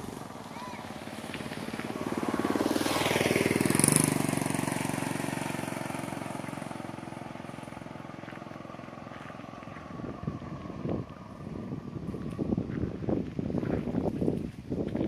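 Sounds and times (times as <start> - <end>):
vehicle engine passing by: 0.0 - 13.4.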